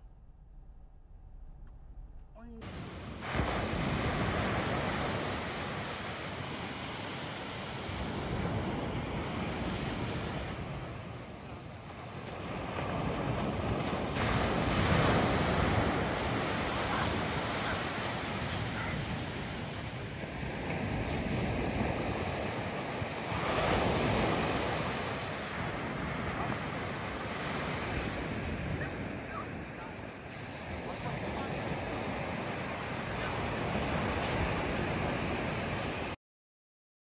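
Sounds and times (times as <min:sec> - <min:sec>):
wind buffeting microphone: 0:00.0 - 0:36.1
waves breaking on beach: 0:02.5 - 0:36.2.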